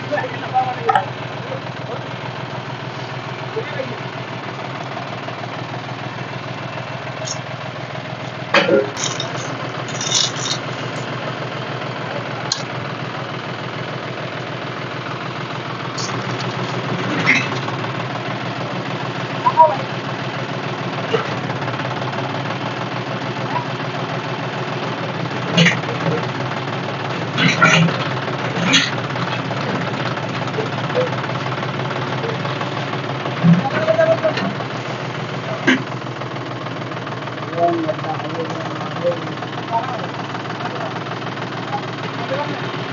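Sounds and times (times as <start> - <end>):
diesel tractor engine idling: 0.0 - 42.9.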